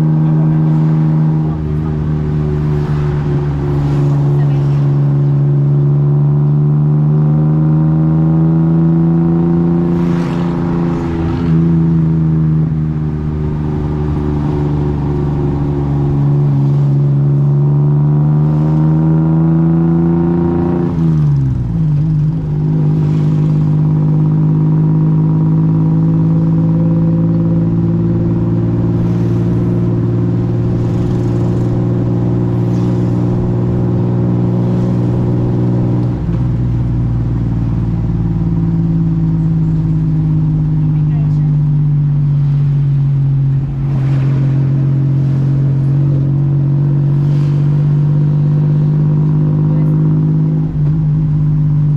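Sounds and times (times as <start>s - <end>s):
tuk tuk engine running: 0.0s - 51.9s.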